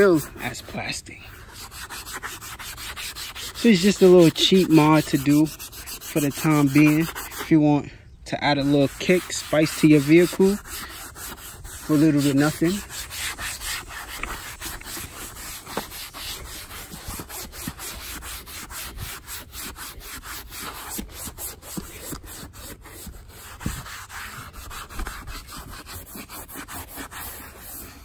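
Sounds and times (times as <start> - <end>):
scuffing pad rubbing leather: 0.0 - 7.6, 8.6 - 28.0.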